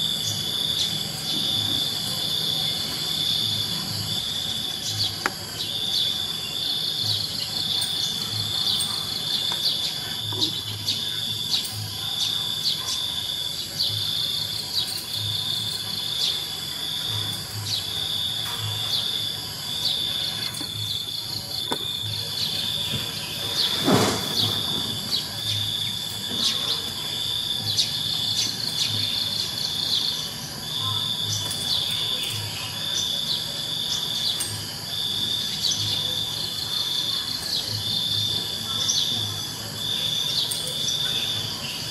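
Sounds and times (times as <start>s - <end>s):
cricket chirping: 0.0s - 41.9s.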